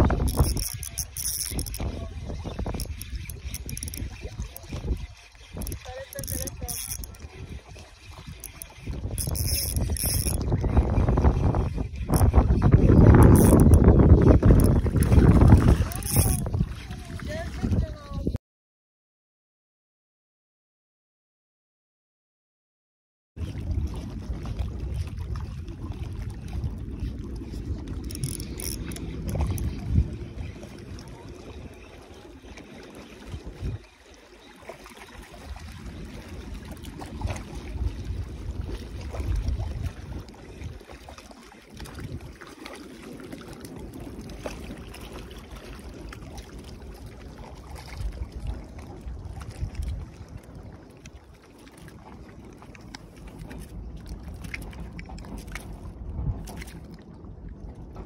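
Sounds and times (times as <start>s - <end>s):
wind buffeting microphone: 0.0s - 18.4s, 23.4s - 34.1s, 34.8s - 58.0s.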